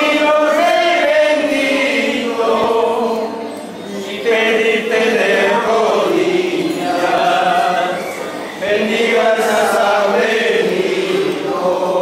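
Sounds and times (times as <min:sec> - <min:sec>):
group singing devotional song: 0:00.0 - 0:12.0.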